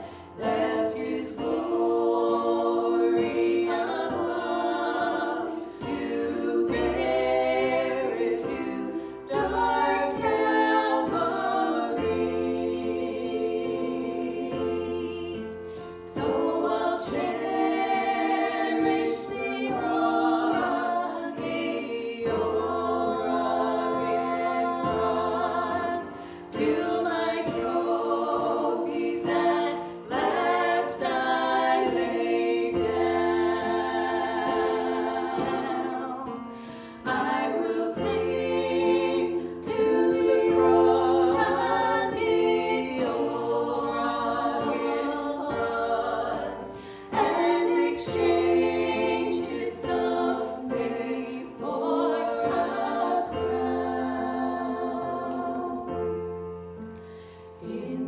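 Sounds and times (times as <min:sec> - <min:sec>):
group singing worship song: 0:00.0 - 0:58.0.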